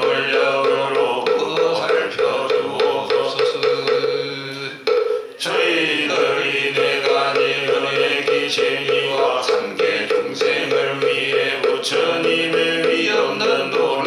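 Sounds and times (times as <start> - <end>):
monks chanting in unison: 0.0 - 4.8, 5.4 - 14.0.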